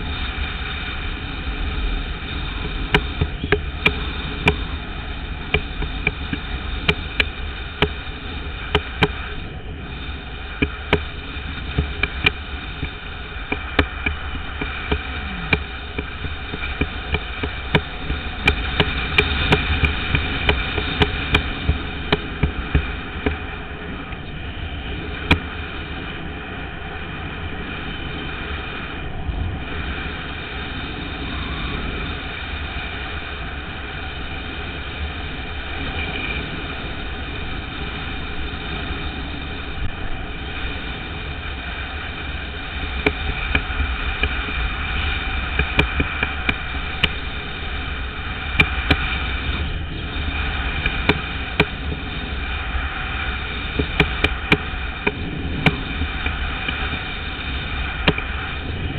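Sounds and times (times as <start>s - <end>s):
skateboard wheels rolling on asphalt: 0.0s - 58.9s.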